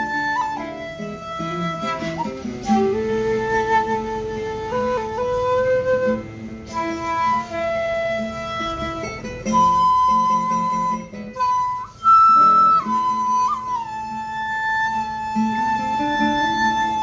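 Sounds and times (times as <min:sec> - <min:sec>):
acoustic guitar accompaniment: 0:00.0 - 0:17.0
shakuhachi melody: 0:00.0 - 0:17.0.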